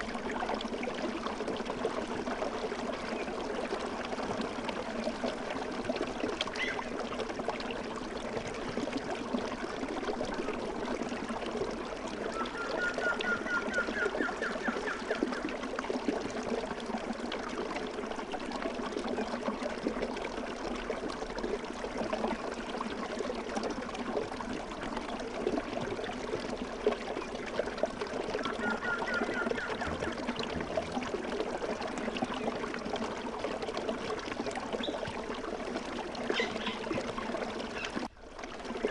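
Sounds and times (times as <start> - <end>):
babbling stream: 0.0 - 38.9.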